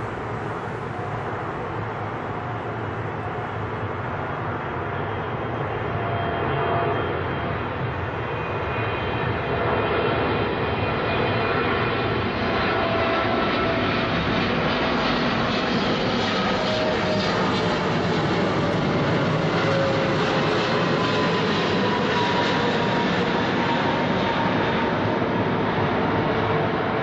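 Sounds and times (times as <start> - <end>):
engine fan whine: 0.0 - 27.0
jet engines rumbling: 0.0 - 27.0.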